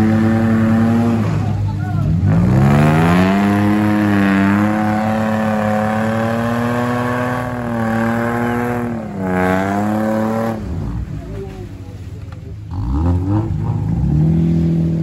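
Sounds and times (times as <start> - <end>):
engine revving hard: 0.0 - 11.0, 12.7 - 15.0.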